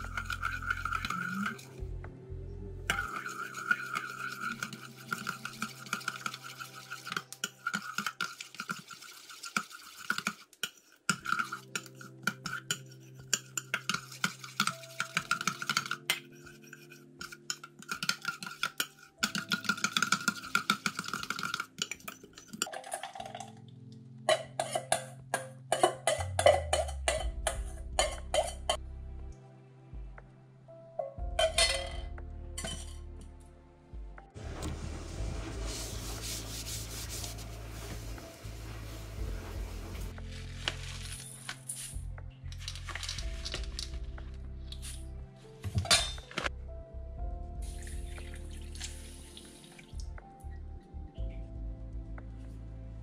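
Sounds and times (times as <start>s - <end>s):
soft background music: 0.0s - 53.0s.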